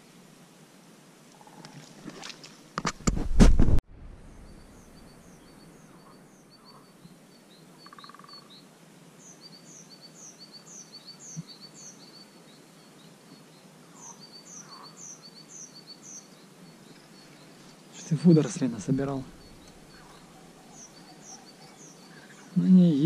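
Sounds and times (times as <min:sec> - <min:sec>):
soft outdoor hiss: 0:00.0 - 0:23.0
songbirds chirping: 0:04.2 - 0:23.0.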